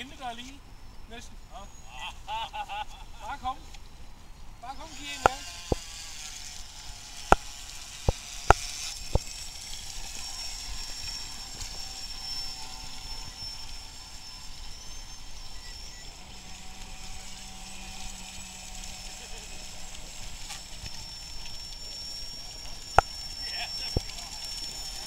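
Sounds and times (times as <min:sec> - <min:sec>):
low hum: 0:00.6 - 0:25.0
model boat motor whining: 0:03.2 - 0:25.0.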